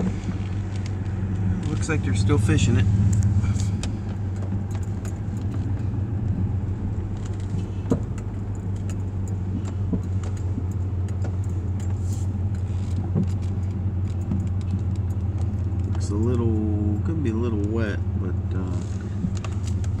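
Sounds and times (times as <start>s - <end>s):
car engine and road hum: 0.0s - 20.0s
small clicks and rattles: 3.1s - 17.8s, 18.6s - 20.0s.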